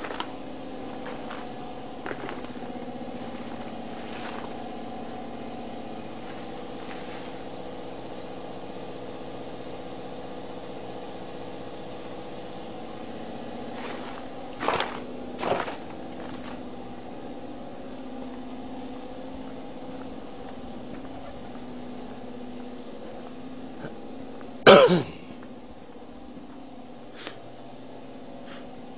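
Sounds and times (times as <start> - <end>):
conveyor motor hum: 0.0 - 28.9.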